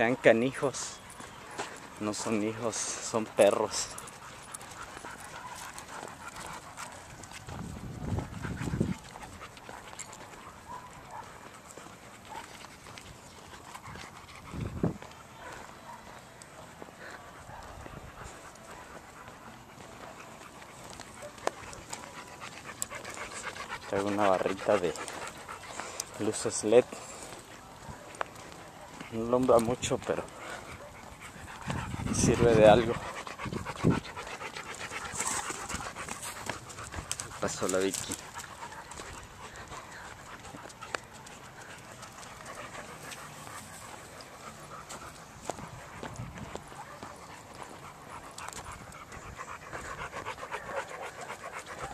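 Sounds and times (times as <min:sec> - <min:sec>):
dogs panting: 0:00.0 - 0:51.9
footsteps on dirt: 0:00.9 - 0:51.9.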